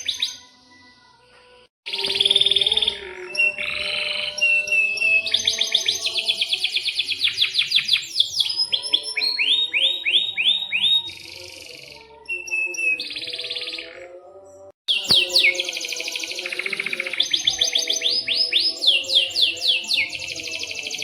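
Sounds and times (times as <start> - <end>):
canary singing trills: 0.0 - 0.8, 1.9 - 21.0.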